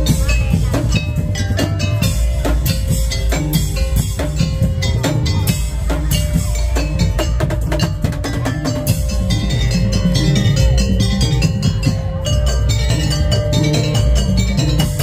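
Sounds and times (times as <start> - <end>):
drum and wood-block strikes: 0.0 - 15.0
heavy bass: 0.0 - 15.0
ringing pitched notes: 0.0 - 15.0.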